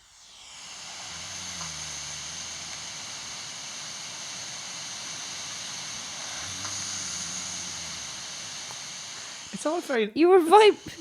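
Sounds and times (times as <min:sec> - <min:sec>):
steady hiss: 0:00.0 - 0:11.0
man snoring: 0:00.2 - 0:09.8.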